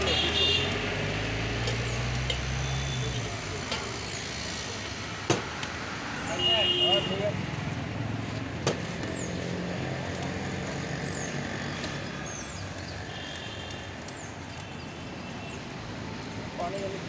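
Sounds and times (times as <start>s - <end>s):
low traffic hum: 0.0s - 17.0s.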